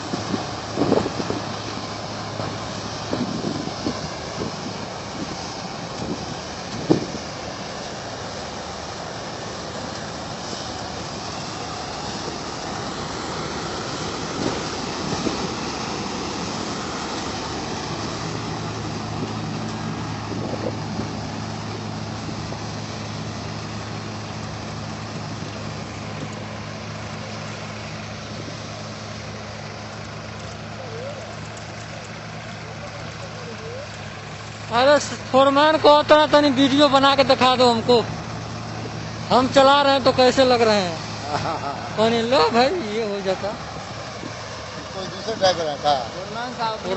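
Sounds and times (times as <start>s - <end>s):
combine harvester engine and machinery: 0.0s - 46.9s
low engine hum: 0.0s - 46.9s.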